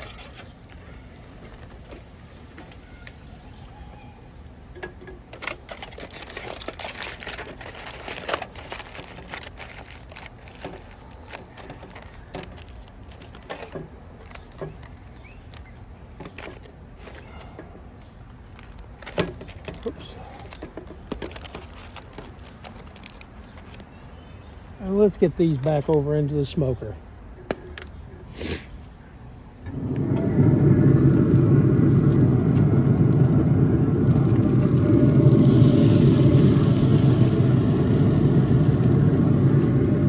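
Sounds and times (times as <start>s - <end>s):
aluminium foil crinkling: 0.0s - 24.0s, 30.9s - 40.0s.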